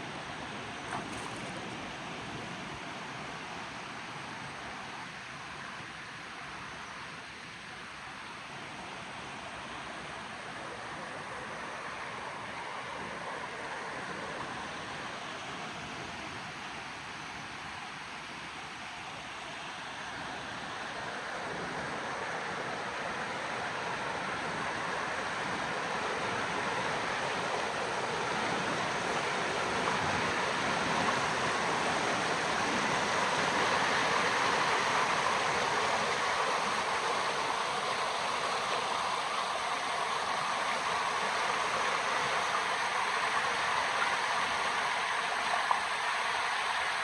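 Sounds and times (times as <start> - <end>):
river water rushing: 7.6 - 47.0.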